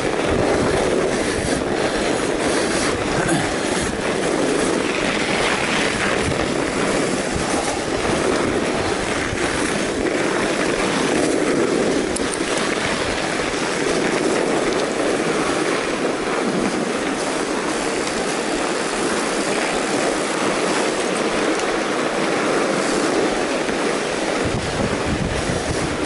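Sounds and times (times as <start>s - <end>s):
bike tyres rolling on snow: 0.0s - 26.0s.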